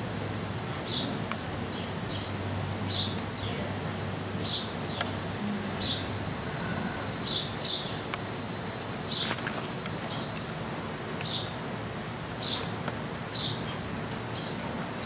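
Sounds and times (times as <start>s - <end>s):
birds chirping: 0.7s - 8.2s, 8.9s - 10.5s, 11.1s - 11.6s, 12.3s - 15.0s.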